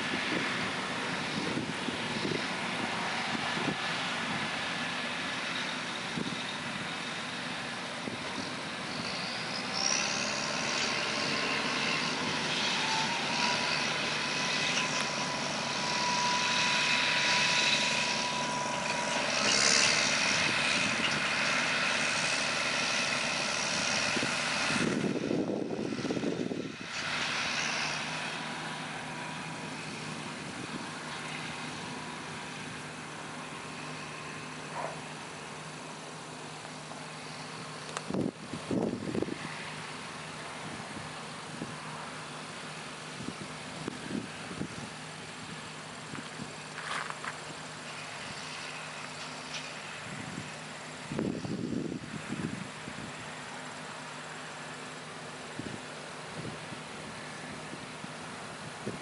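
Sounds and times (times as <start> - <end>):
combine harvester working: 0.0 - 59.0
quiet steady engine hum: 0.0 - 59.0
tractor engine: 0.0 - 59.0.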